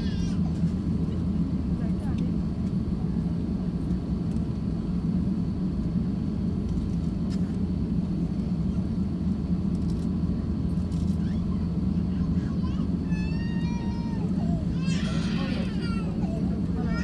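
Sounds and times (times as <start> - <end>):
airplane taxiing rumble: 0.0 - 17.0.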